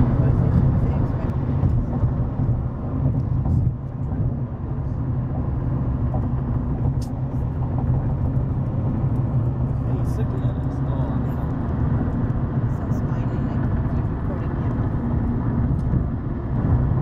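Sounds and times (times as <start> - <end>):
road and engine rumble inside car: 0.0 - 17.0.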